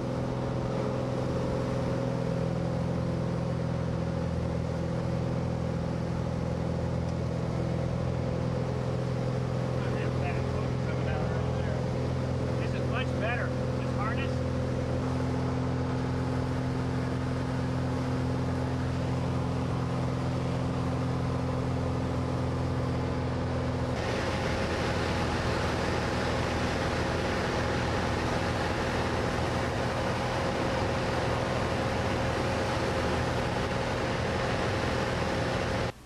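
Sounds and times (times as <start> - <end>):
aircraft engine and propeller droning: 0.0 - 36.0.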